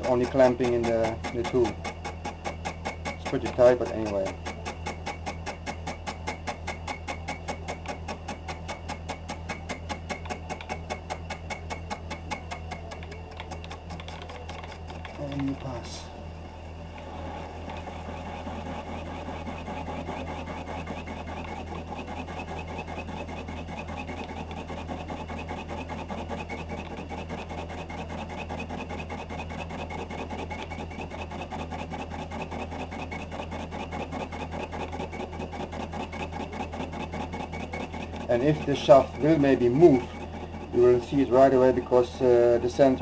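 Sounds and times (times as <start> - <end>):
lathe motor hum: 0.0 - 43.0
rhythmic metal cutting noise: 0.0 - 43.0.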